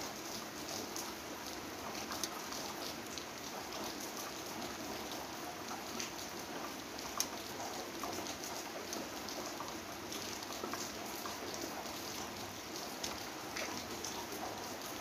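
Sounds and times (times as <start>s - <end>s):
steady rain: 0.0s - 15.0s
raindrops tapping close by: 0.1s - 15.0s.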